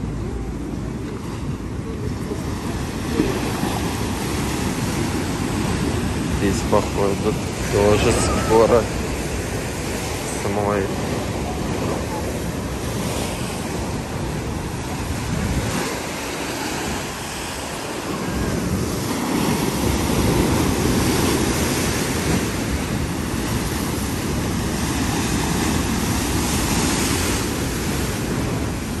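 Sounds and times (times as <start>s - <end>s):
storm waves breaking: 0.0s - 29.0s.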